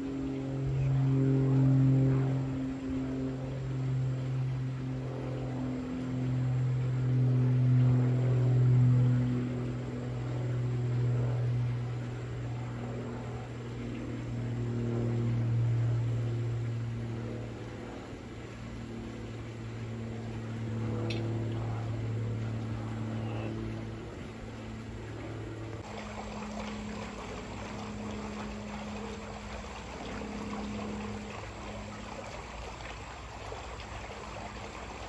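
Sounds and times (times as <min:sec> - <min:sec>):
aircraft engine drone: 0:00.0 - 0:35.0.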